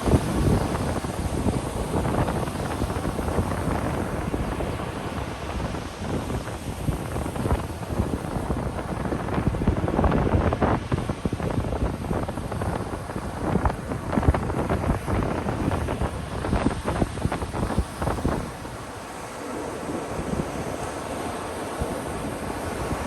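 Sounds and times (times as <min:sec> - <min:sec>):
ocean surf washing onto beach: 0:00.0 - 0:23.0
wind buffeting microphone: 0:00.0 - 0:23.0.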